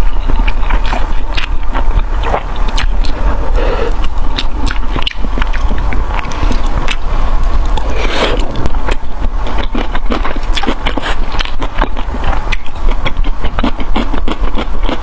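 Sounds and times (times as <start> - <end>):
person chewing food: 0.0 - 15.0
steady low rumble: 0.0 - 15.0.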